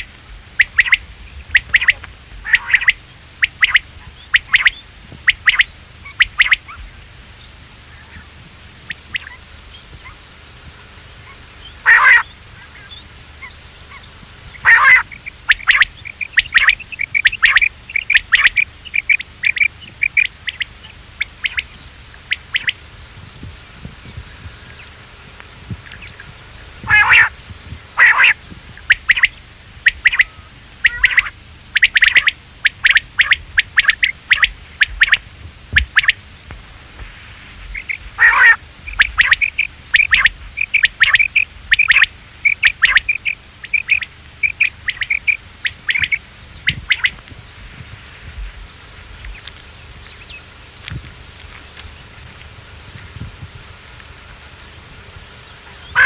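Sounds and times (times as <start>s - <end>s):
quail calls: 0.0s - 7.0s, 7.8s - 36.5s, 37.6s - 52.4s, 55.3s - 56.0s.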